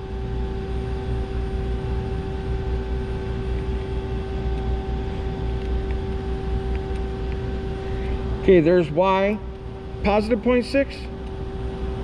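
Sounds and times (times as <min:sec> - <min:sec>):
shop machinery humming: 0:00.0 - 0:12.0.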